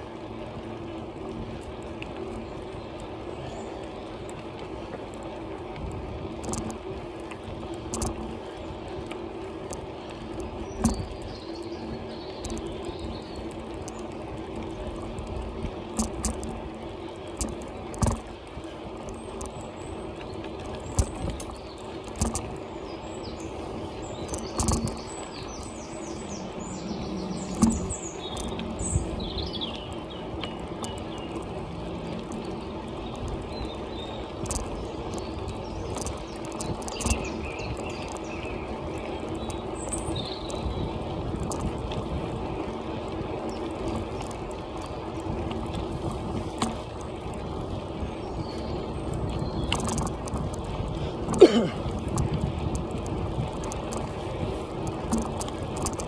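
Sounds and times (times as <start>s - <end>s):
bicycle tyres rolling: 0.0s - 56.0s
birds chirping: 0.1s - 56.0s
bicycle knocks and rattles: 4.2s - 56.0s.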